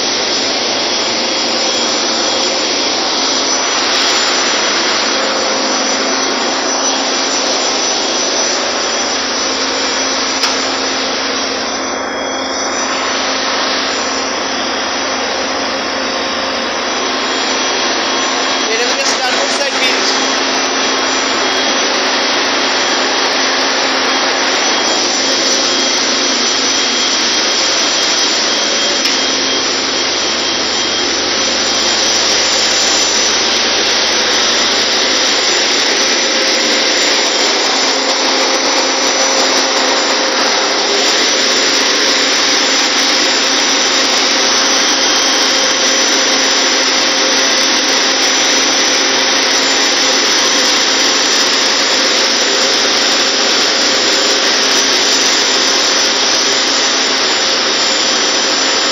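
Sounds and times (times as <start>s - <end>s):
engine room machinery running: 0.0s - 58.9s.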